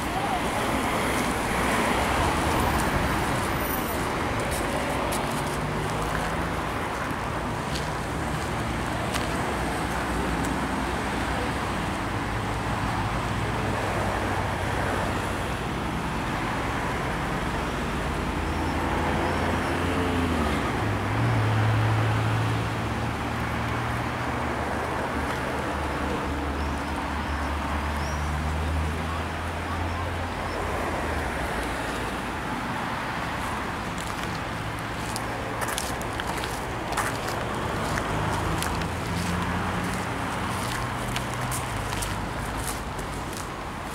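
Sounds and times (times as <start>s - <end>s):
outdoor noise: 0.0s - 43.9s.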